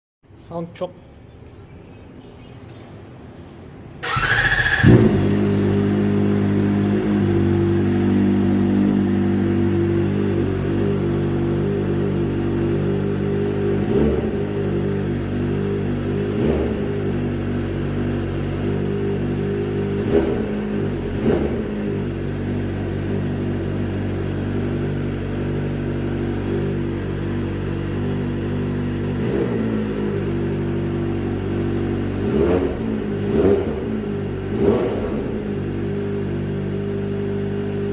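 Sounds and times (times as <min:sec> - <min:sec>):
motorcycle engine idling with blips: 0:04.0 - 0:37.9.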